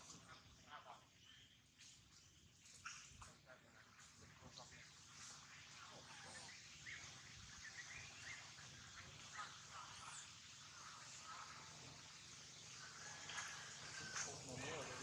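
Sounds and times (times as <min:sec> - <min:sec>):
small animals chirping and squeaking: 0:00.0 - 0:15.0.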